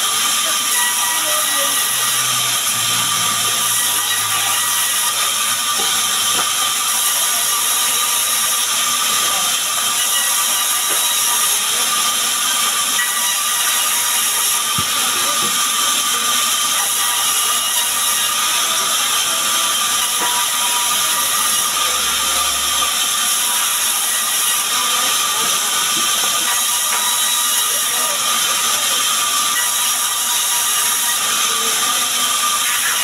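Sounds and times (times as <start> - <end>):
band saw ripping timber: 0.0 - 33.0.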